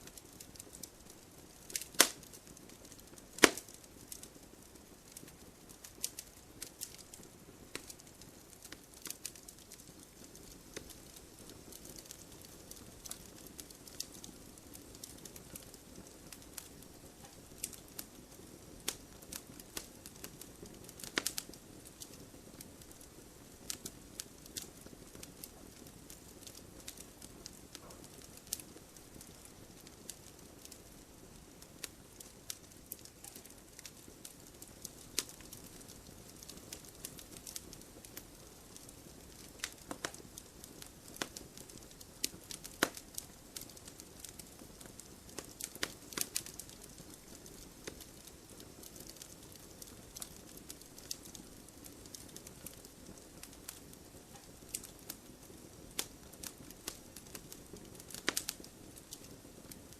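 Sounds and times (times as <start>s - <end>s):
soft steady hiss: 0.0s - 59.9s
wood fire crackling and popping: 0.0s - 59.9s.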